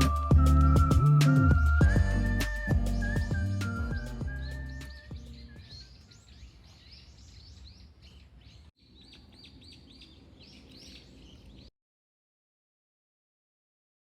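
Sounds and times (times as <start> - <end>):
small birds chirping: 0.0 - 11.7.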